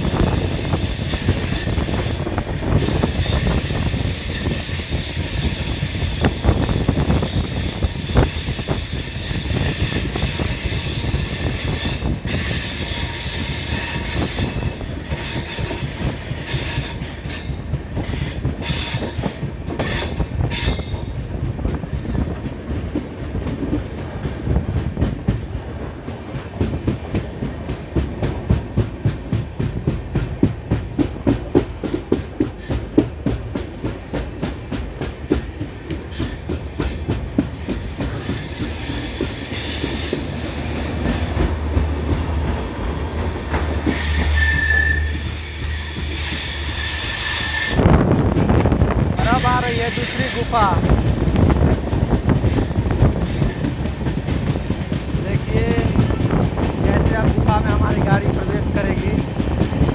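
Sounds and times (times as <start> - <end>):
deep train rumble: 0.0 - 59.9
train wheels clattering over rail joints: 0.0 - 59.9.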